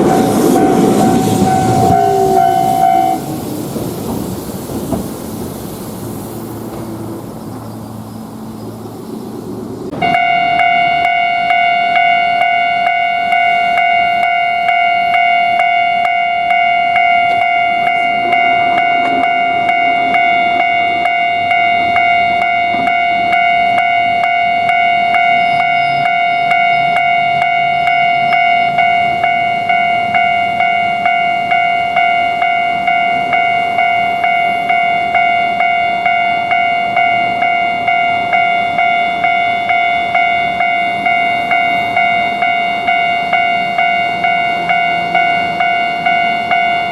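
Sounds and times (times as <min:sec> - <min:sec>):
railroad crossing bell ringing: 0:00.0 - 0:04.1, 0:09.9 - 0:46.9.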